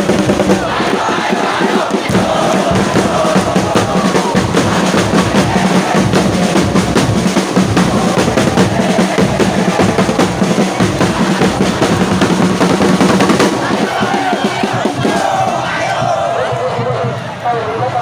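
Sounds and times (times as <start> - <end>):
drums beating fast rhythm: 0.0 - 18.0
stadium crowd chanting: 0.0 - 18.0.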